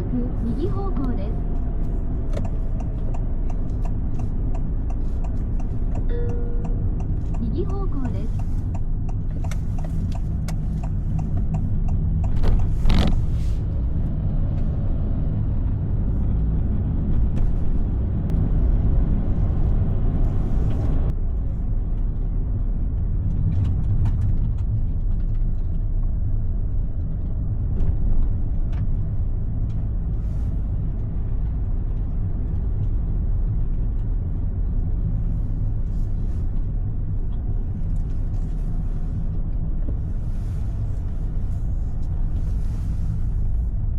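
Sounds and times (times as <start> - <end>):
car interior driving rumble: 0.0 - 43.9.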